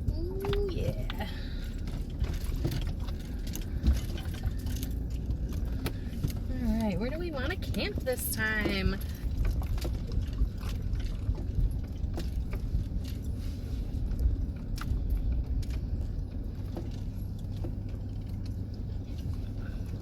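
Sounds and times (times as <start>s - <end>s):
van engine rumble: 0.0s - 20.0s.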